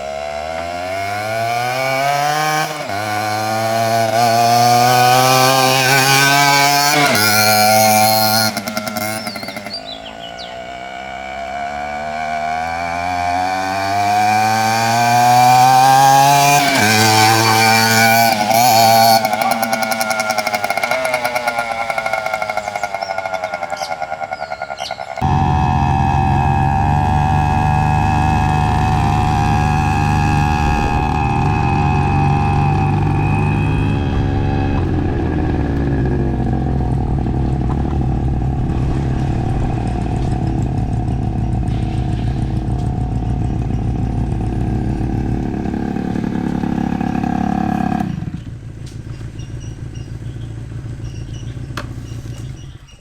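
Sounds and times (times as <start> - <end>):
two-stroke engine accelerating: 0.0 - 53.0.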